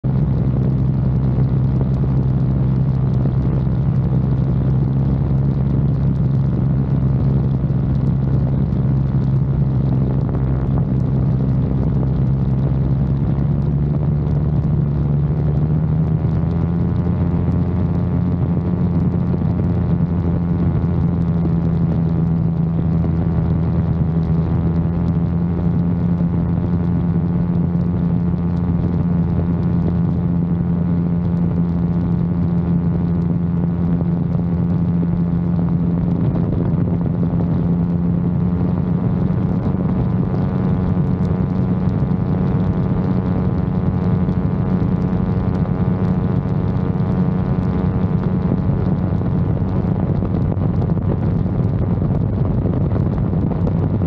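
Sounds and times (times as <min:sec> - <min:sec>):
ultralight engine and propeller: 0:00.0 - 0:54.0.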